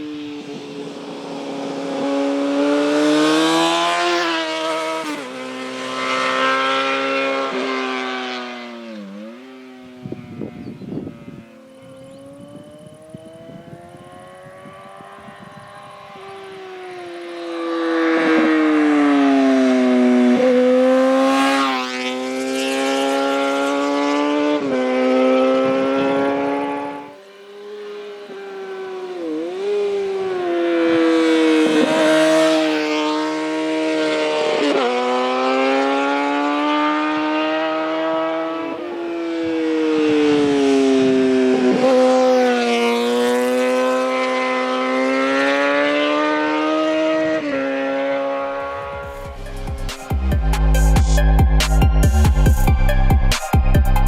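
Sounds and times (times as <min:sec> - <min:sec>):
motorcycle engine changing gears: 0:00.4 - 0:53.5.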